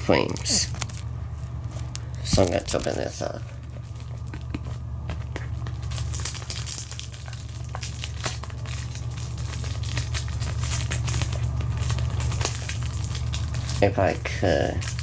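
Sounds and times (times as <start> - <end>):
packaging crinkling: 0.0 - 15.0
steady low hum: 0.0 - 15.0.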